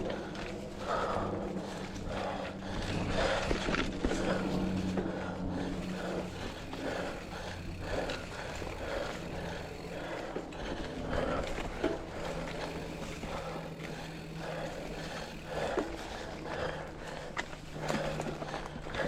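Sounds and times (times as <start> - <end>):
bike rattling on dirt trail: 0.0 - 19.0
person breathing hard: 0.0 - 19.0.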